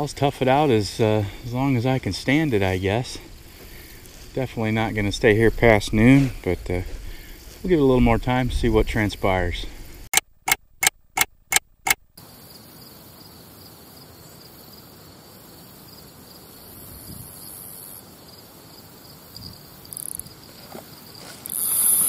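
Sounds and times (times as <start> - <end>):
crickets chirping: 0.0 - 10.1, 12.2 - 22.0.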